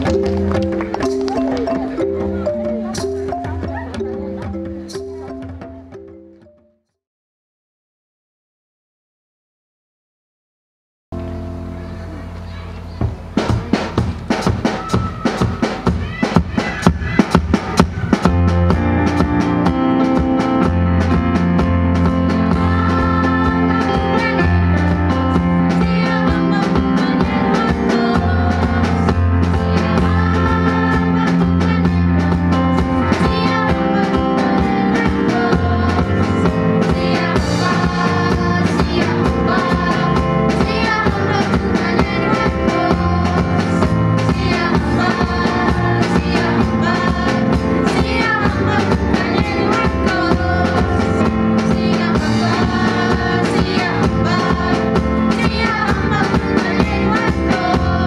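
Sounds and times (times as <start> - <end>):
music with singing and beat: 0.0 - 6.6, 13.0 - 58.0.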